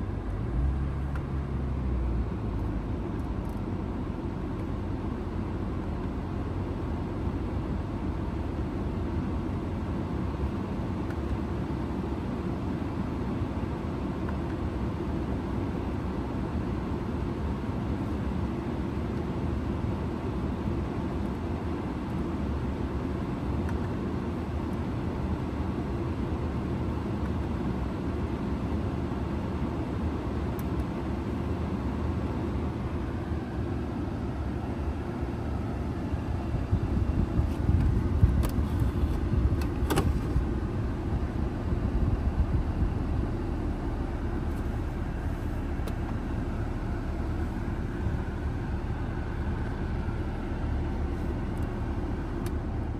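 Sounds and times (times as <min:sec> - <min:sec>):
car cabin low rumble: 0:00.0 - 0:52.9.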